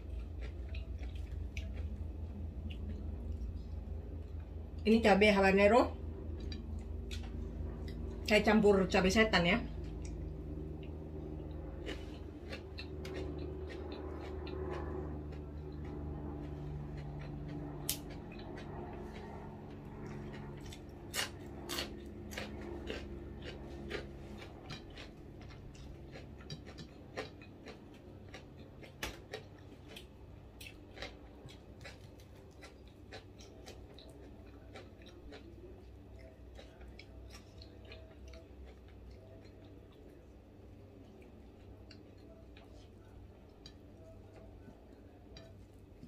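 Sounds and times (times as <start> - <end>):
chewing and crunching food: 0.0 - 46.0
low steady hum: 0.0 - 46.0.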